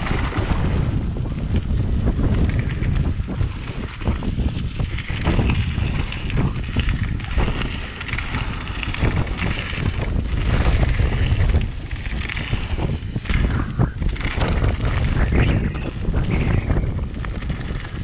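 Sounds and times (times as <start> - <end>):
bike tyres crunching on gravel: 0.0 - 18.0
wind rushing over microphone: 0.0 - 18.0.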